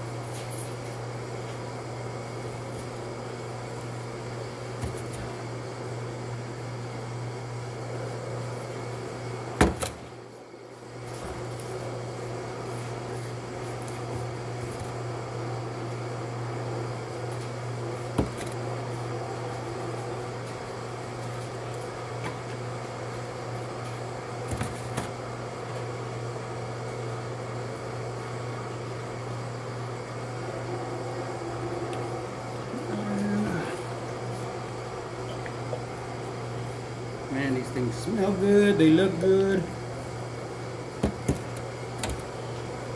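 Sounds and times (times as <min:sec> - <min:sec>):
machine humming: 0:00.0 - 0:42.9.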